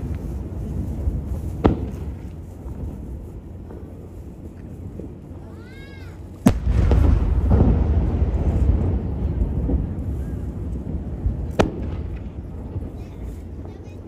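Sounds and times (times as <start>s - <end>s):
firework shells bursting: 0.0s - 14.0s
low rumble and echo: 0.0s - 14.0s.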